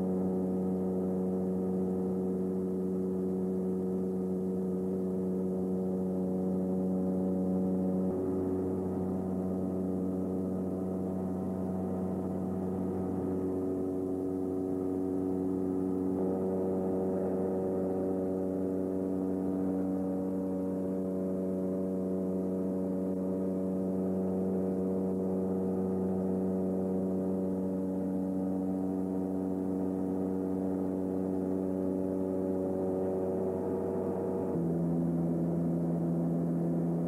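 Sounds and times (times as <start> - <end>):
turboprop cabin drone: 0.0 - 37.0.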